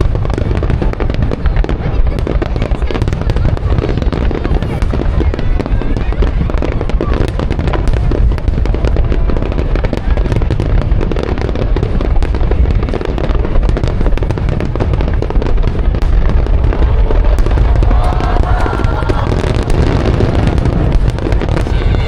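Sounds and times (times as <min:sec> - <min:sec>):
fireworks booming: 0:00.0 - 0:22.0
fireworks crackling: 0:00.0 - 0:22.0.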